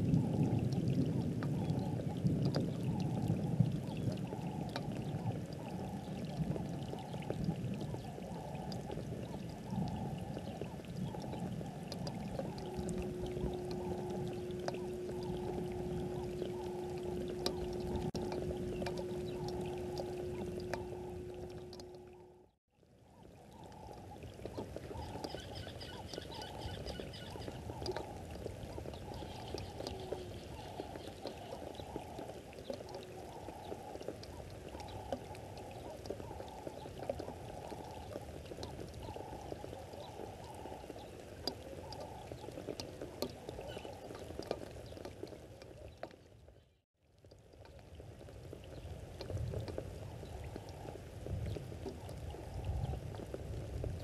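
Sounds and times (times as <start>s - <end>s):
crackling rushing noise: 0.0s - 22.6s, 23.7s - 45.9s
low steady hum: 0.0s - 54.0s.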